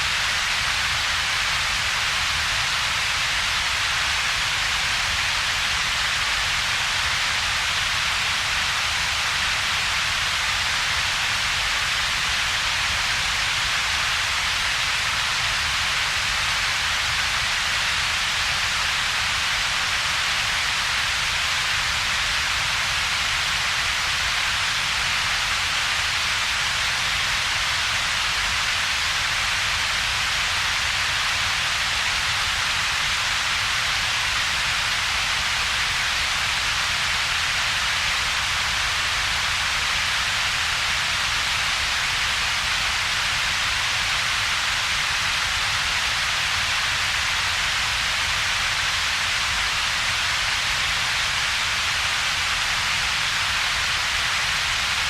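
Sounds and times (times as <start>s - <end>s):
steady synthetic hiss: 0.0s - 55.0s.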